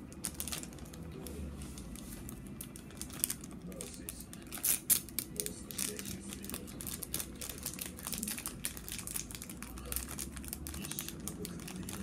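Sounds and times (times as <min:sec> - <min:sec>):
plastic snack bag crinkling: 0:00.0 - 0:12.0.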